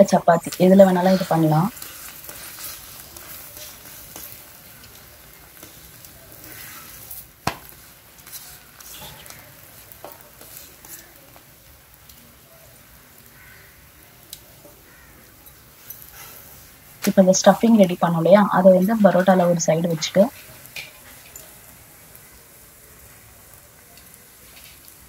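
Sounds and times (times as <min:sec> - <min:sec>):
bread sizzling in butter: 0:00.0 - 0:25.0.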